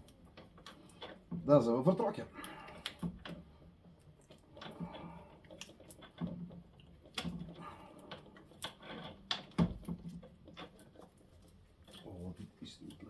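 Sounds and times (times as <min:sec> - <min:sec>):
small metallic clicks and knocks: 0:00.0 - 0:13.0.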